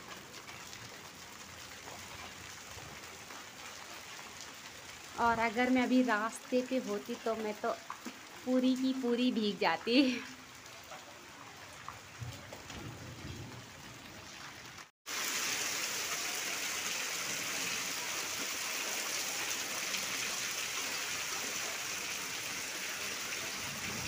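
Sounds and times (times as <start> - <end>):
heavy rain and hail on concrete: 0.0 - 24.0.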